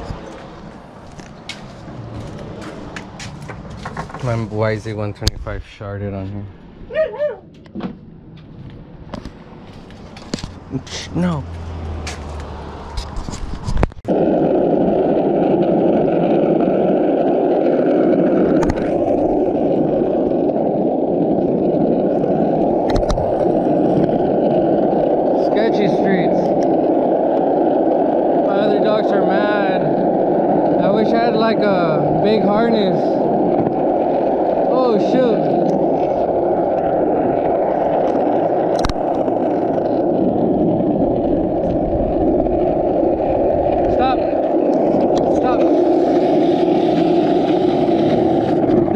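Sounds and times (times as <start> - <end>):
wheels rolling over rough pavement: 0.0 - 6.4, 7.5 - 48.9
wind buffeting microphone: 0.0 - 7.0, 8.2 - 48.9.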